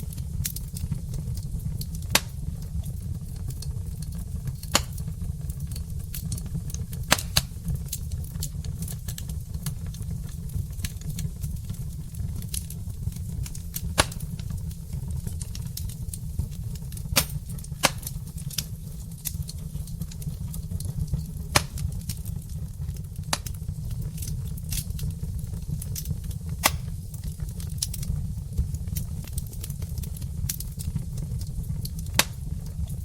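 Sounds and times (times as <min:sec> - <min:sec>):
burning logs crackling and popping: 0:00.0 - 0:33.0
fire flames rumbling: 0:00.0 - 0:33.0.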